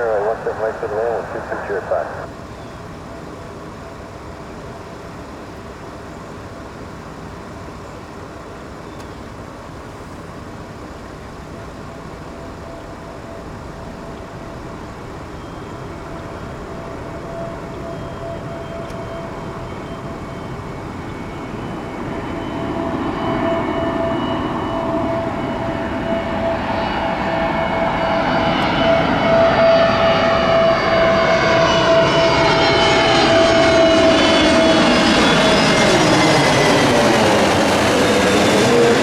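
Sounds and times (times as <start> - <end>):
jet airliner engines rumbling and whining: 0.0 - 39.0.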